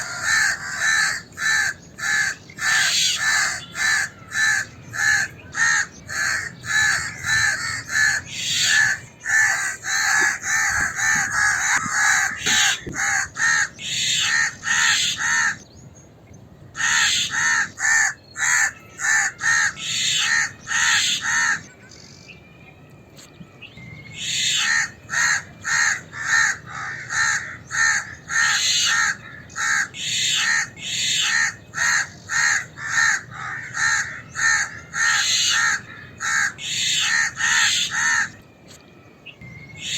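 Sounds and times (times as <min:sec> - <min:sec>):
crow harsh alarm caws: 0:00.0 - 0:15.6, 0:16.8 - 0:21.7, 0:24.2 - 0:38.4.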